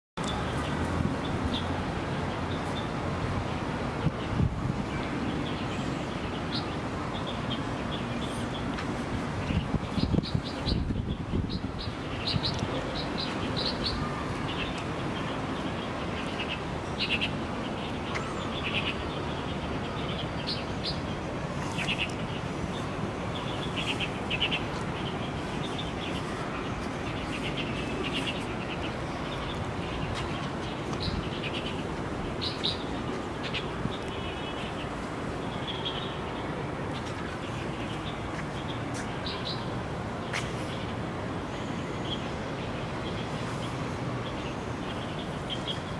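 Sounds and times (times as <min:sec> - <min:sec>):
small birds chirping: 0:04.0 - 0:45.9.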